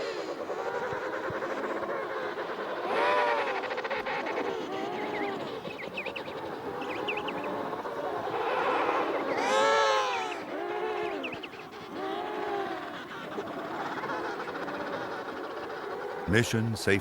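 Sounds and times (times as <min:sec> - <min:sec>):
penguin chicks peeping: 0:00.1 - 0:17.0.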